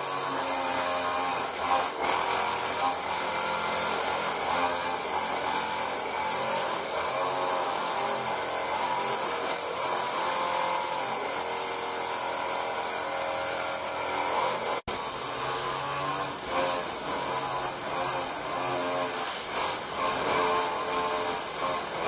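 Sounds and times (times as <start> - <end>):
small power tool whining: 0.0 - 22.0.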